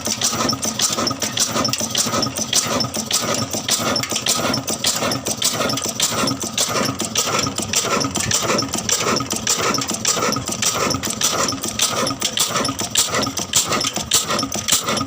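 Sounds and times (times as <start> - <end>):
old engine idling with knocking: 0.0 - 15.0.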